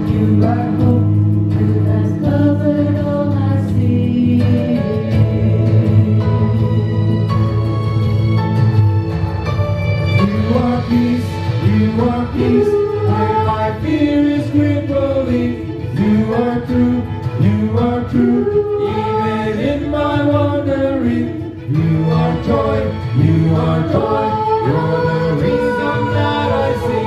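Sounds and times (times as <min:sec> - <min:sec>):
choir singing worship song: 0:00.0 - 0:07.7, 0:10.2 - 0:27.0
sustained instrumental chords: 0:00.0 - 0:27.0.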